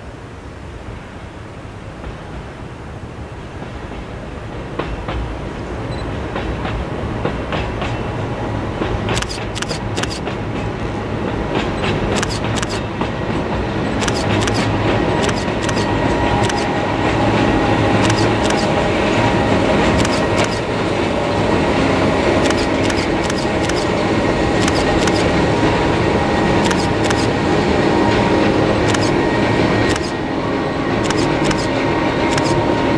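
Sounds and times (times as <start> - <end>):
train rolling rumble: 0.1 - 32.9.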